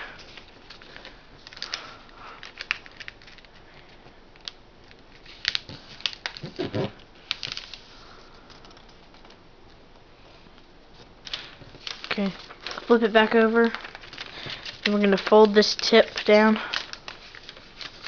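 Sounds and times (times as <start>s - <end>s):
paper being folded and creased: 0.2s - 9.4s, 11.0s - 18.0s.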